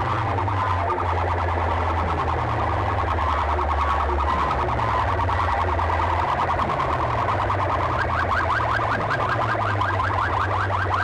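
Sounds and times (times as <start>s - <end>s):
siren-like warbling tone: 0.0s - 11.0s.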